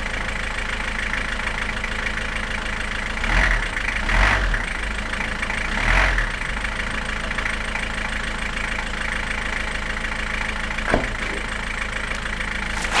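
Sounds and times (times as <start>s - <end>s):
diesel car exhaust idling: 0.0s - 13.0s.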